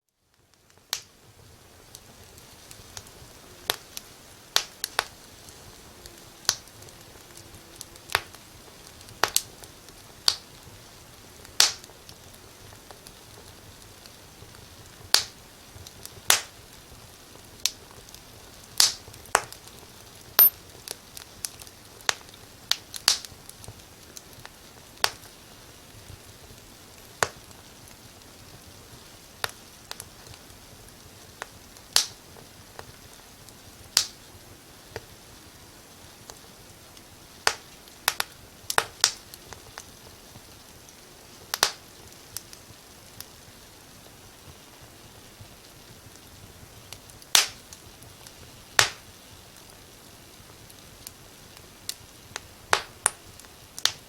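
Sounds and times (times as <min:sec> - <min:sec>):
soft steady hiss: 0:00.0 - 0:54.0
fire crackling and popping: 0:00.1 - 0:54.0.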